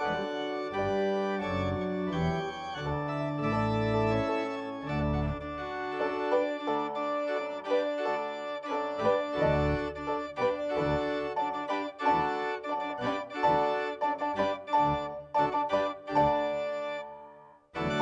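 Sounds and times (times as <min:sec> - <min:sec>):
organ music: 0:00.0 - 0:18.0.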